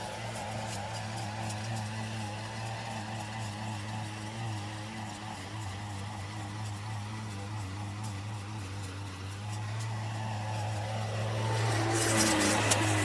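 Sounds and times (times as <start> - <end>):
brush cutter engine mowing grass: 0.0 - 13.0.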